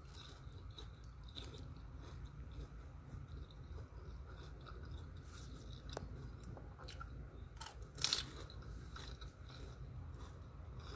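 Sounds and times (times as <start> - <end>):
crunchy food chewing: 0.0 - 10.9
low steady hum: 0.0 - 10.9.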